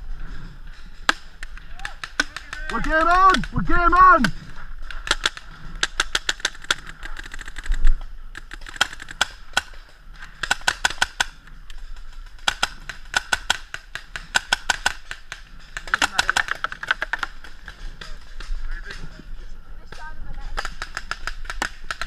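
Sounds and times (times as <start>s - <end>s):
paintball markers firing: 1.0s - 4.0s, 4.8s - 18.5s, 19.9s - 22.0s.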